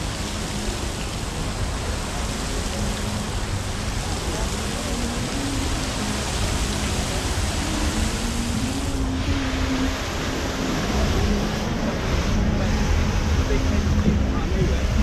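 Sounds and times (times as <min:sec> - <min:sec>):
fountain jets splashing: 0:00.0 - 0:15.0.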